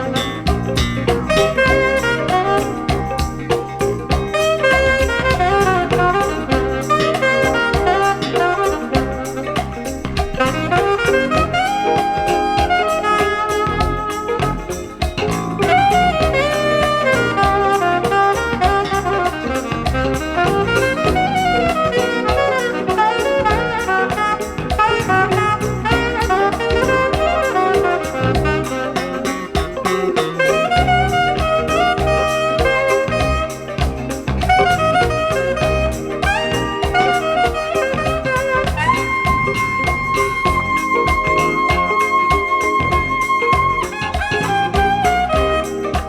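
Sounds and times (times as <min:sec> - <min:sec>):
saxophone melody: 0:00.0 - 0:46.0
smooth jazz from vinyl record: 0:00.0 - 0:46.0.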